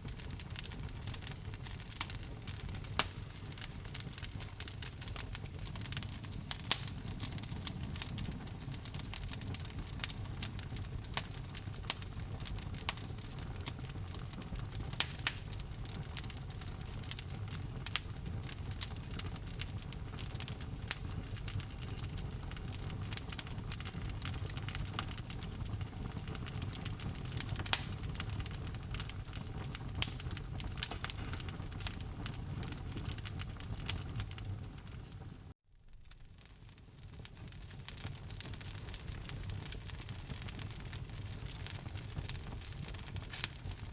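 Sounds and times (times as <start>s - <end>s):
fire crackling and popping: 0.0s - 43.9s
low rumble of flame: 0.0s - 43.9s.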